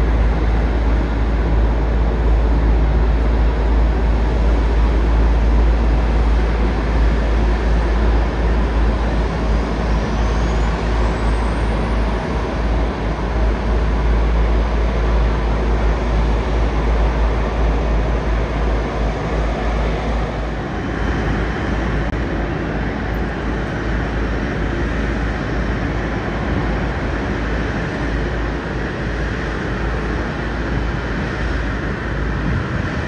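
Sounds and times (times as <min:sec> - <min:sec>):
jet engine noise: 0:00.0 - 0:33.0
wind buffeting microphone: 0:00.0 - 0:33.0.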